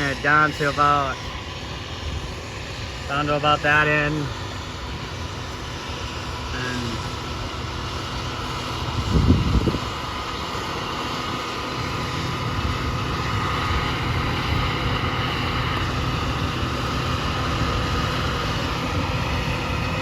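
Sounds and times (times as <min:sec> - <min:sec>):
engine droning with faint whine: 0:00.0 - 0:20.0.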